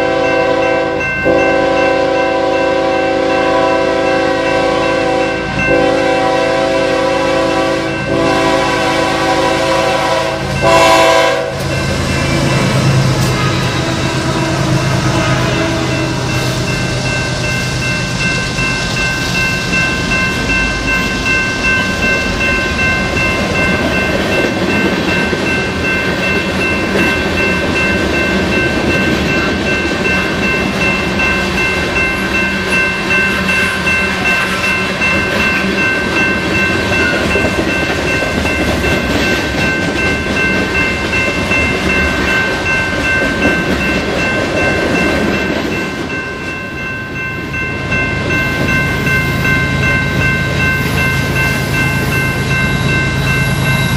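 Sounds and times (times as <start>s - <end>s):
crossing bell ringing: 0.0s - 53.9s
diesel locomotive engines humming: 0.0s - 53.9s.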